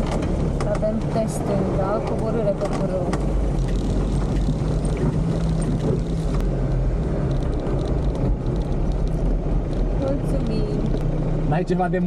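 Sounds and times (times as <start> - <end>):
vehicle clicks and knocks: 0.0 - 1.3, 1.9 - 11.1
car engine running: 0.0 - 12.0.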